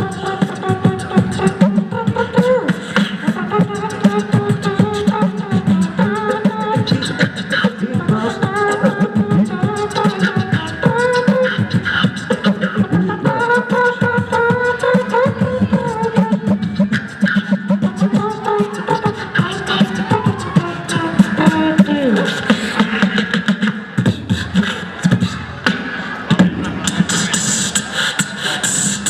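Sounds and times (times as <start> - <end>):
sung melody line: 0.0 - 29.0
voices beatboxing: 0.0 - 29.0.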